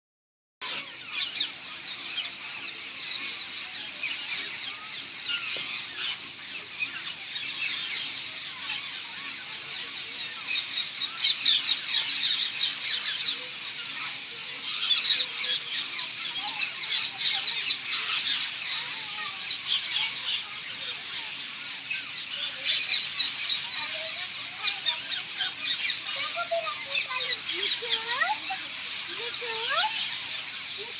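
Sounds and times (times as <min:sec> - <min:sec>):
parakeets squawking and chirping: 0:00.6 - 0:30.9.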